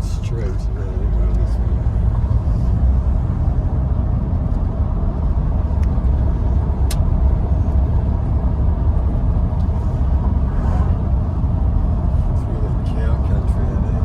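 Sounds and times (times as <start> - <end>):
car interior road and engine rumble: 0.0 - 14.0.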